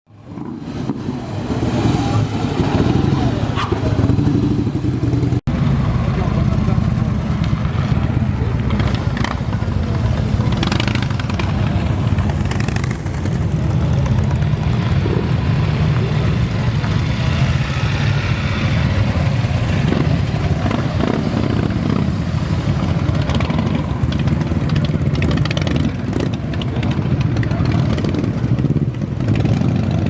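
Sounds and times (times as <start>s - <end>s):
motorcycle engines rumbling: 0.1s - 30.0s.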